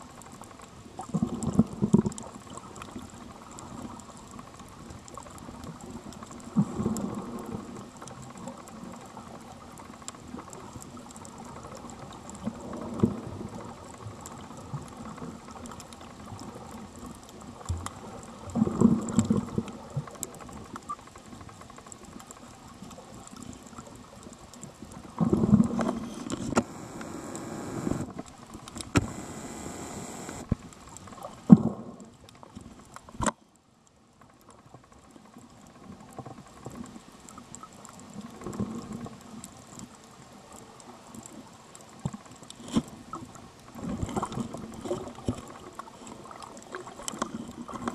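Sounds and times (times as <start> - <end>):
muffled underwater water movement: 0.0 - 47.9.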